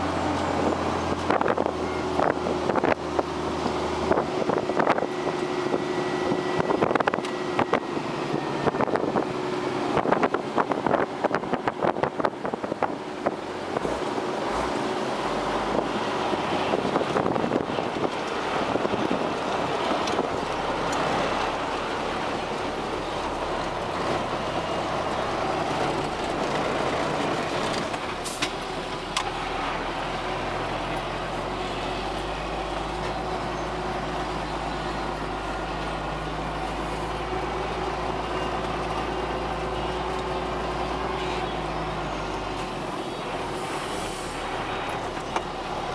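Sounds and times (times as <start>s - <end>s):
tractor engine drone in cab: 0.0s - 45.9s.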